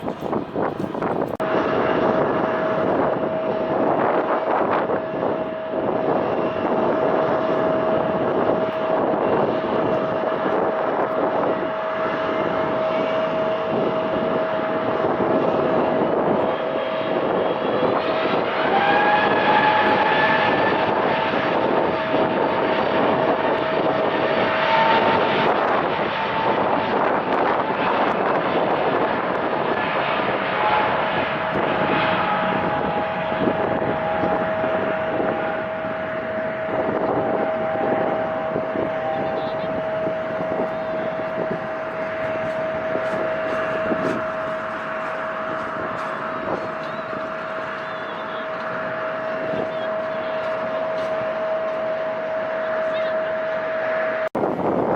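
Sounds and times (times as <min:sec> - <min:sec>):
whine rising in pitch: 0:00.0 - 0:54.3
jet engines at takeoff power: 0:00.0 - 0:54.9.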